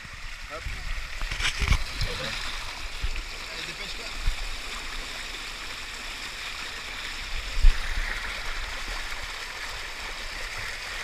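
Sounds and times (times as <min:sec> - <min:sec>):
water gushing down a slide: 0:00.0 - 0:11.0.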